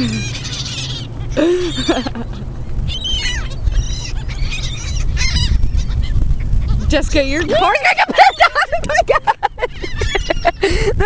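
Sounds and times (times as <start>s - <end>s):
flock of birds squawking: 0.0s - 10.8s.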